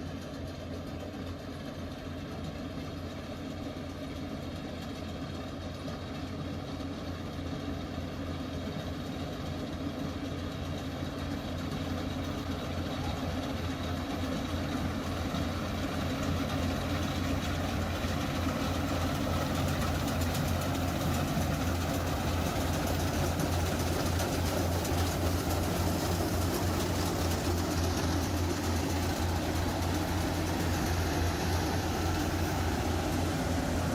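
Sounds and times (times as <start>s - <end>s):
harvesting machine engine humming: 0.1s - 33.9s.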